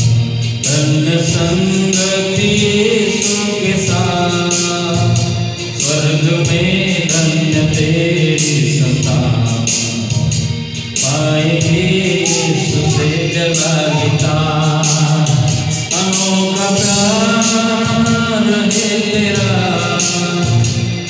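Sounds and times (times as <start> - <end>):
instrumental backing with steady beat: 0.0 - 21.0
man singing into a microphone: 0.0 - 21.0.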